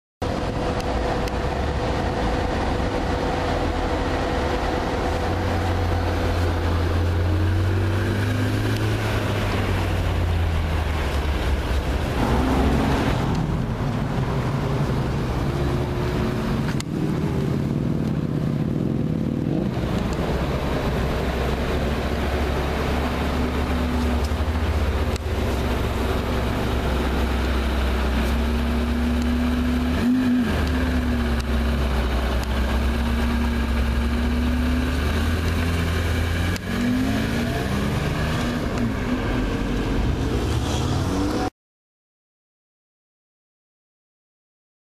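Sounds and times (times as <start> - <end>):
car engine rumbling at low revs: 0.2 - 41.5.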